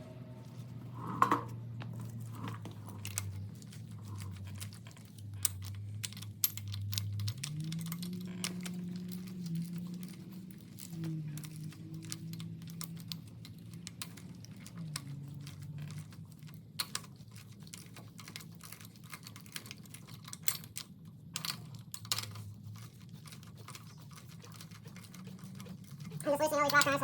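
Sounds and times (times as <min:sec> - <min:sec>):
hand tools clicking and tapping metal: 0:02.0 - 0:27.0.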